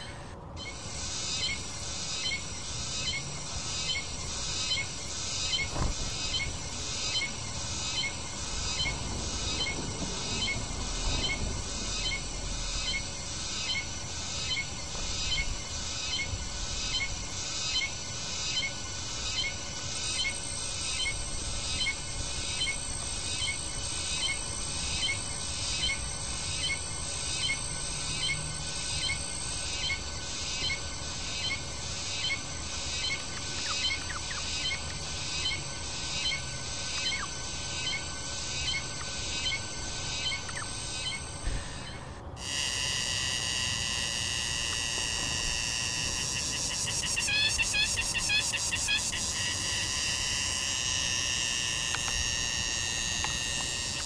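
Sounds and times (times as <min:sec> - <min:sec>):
small bird chirping: 0:00.0 - 0:17.9, 0:18.5 - 0:50.3.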